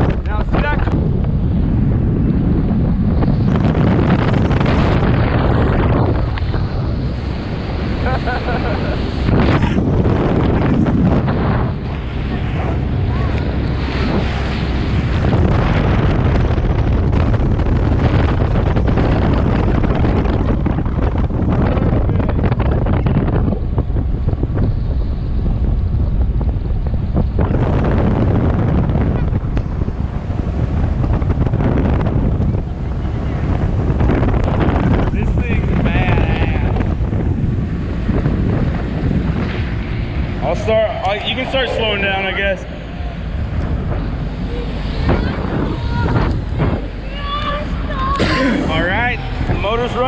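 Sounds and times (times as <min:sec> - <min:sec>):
water rushing past: 0:00.0 - 0:22.7, 0:23.3 - 0:50.0
wind buffeting microphone: 0:00.0 - 0:50.0.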